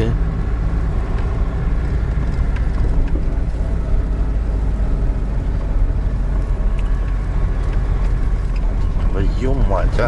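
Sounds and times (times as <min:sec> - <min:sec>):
van engine and road drone: 0:00.0 - 0:10.0.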